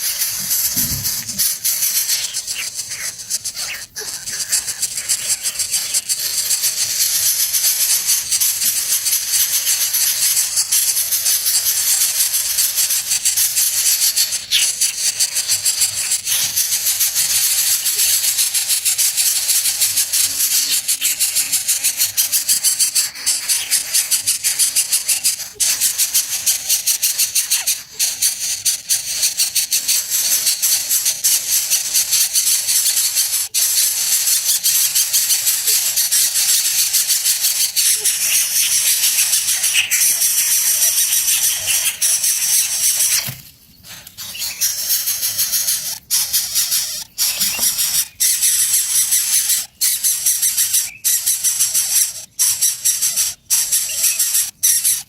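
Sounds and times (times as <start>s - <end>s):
insect chorus buzzing: 0.0s - 54.8s.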